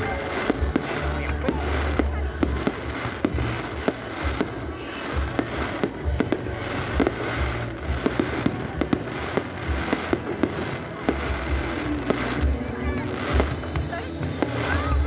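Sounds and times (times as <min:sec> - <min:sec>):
fireworks crackling: 0:00.0 - 0:15.0
fireworks sharp bangs: 0:00.0 - 0:15.0.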